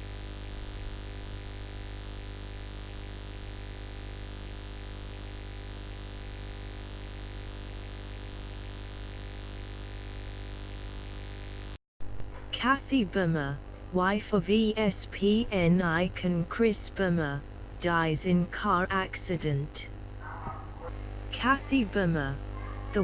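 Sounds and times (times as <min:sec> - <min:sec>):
steady buzzing hum with hiss: 0:00.0 - 0:23.0.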